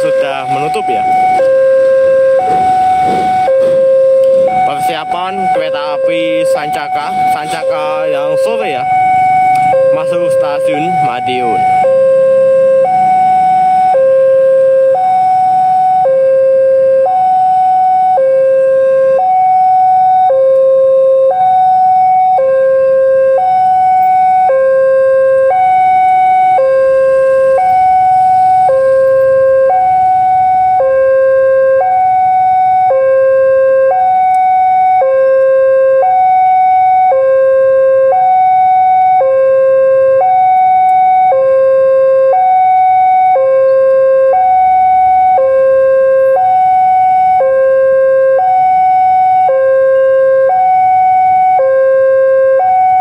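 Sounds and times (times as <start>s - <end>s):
level crossing alarm two-tone: 0.0s - 53.0s.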